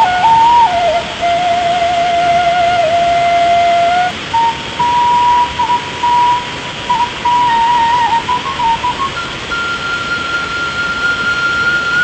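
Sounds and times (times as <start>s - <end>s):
flute-like melody: 0.0s - 12.0s
steady hiss: 0.0s - 12.0s.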